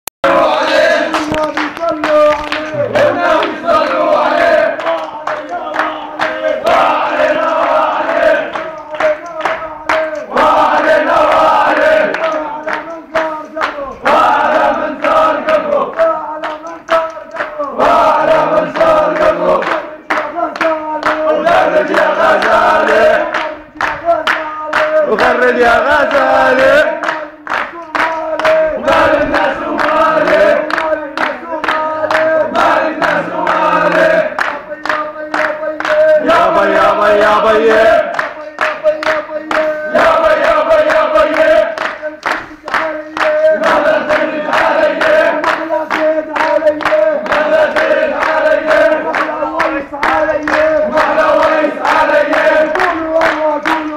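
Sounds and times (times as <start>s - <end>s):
men singing and chanting: 0.2s - 53.9s
rhythmic hand-clapping: 0.2s - 53.9s.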